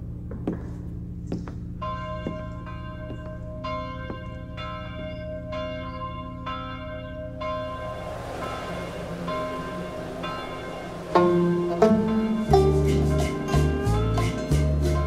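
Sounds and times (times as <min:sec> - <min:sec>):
bell ringing: 0:01.8 - 0:14.3.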